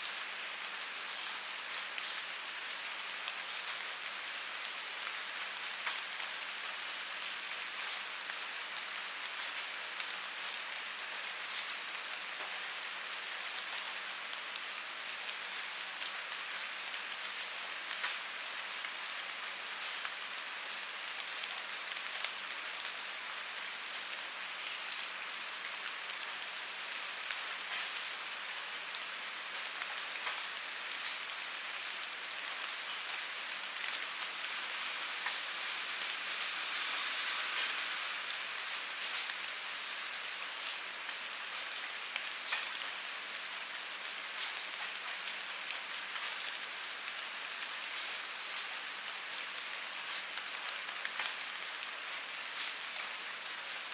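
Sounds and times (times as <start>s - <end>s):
raindrops pattering on a surface: 0.0s - 53.9s
steady rain falling: 0.0s - 53.9s.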